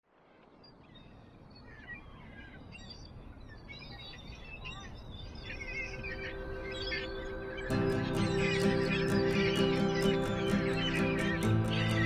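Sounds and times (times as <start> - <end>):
songbirds chirping and trilling: 0.6 - 12.0.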